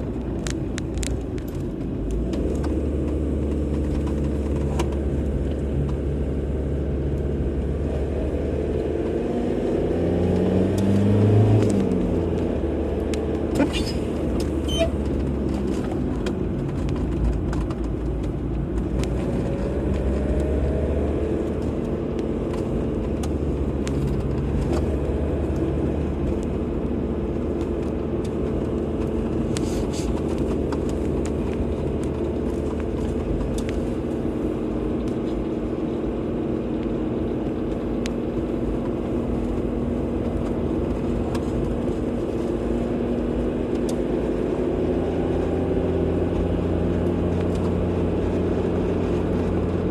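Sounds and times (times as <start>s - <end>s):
car engine and tyres rumbling: 0.0s - 49.9s.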